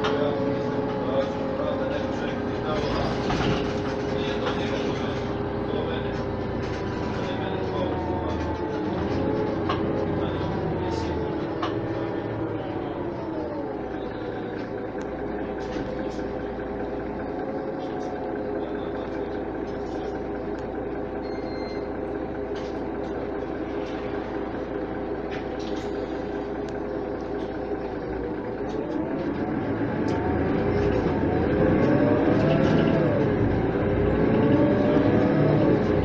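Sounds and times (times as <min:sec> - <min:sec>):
bus diesel engine idling: 0:00.0 - 0:36.0.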